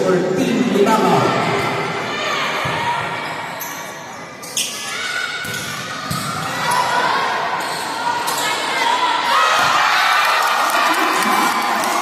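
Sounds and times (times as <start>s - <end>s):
players and spectators shouting: 1.0s - 3.5s, 4.8s - 12.0s.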